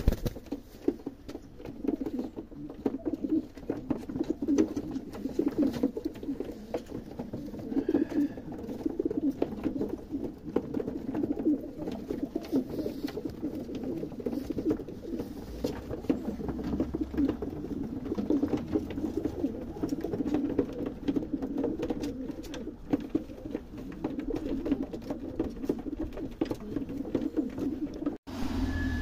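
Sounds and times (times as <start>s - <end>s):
pigeons cooing: 1.5s - 28.2s.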